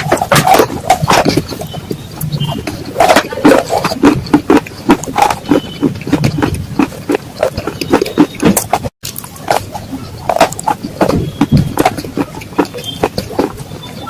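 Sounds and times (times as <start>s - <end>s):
clay pot pieces crunching: 0.0s - 14.0s.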